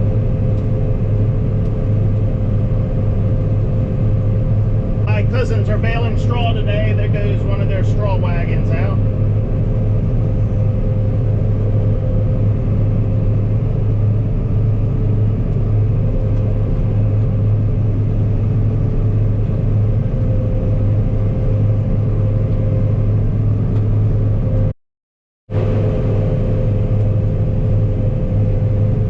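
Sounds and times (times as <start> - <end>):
combine harvester engine drone: 0.0 - 24.7, 25.5 - 29.0
high machine whine: 0.0 - 24.7.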